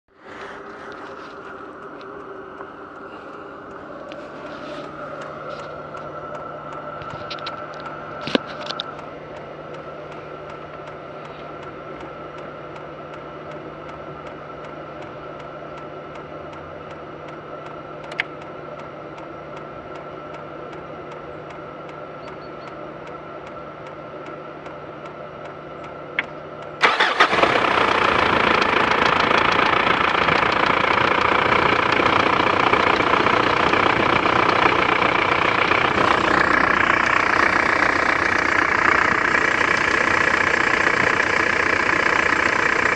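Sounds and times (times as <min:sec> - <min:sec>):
diesel engine starting and idling: 0:00.1 - 0:42.9
steady hum: 0:00.1 - 0:42.9.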